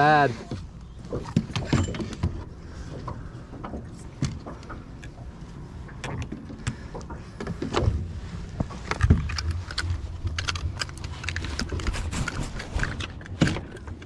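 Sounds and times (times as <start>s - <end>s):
handling knocks and clicks: 0.4s - 14.0s.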